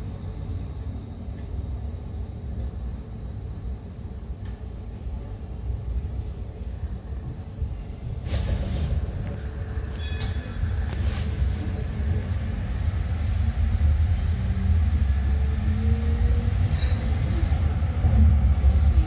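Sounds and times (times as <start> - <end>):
tram wheels rumbling on rail: 0.0 - 19.0.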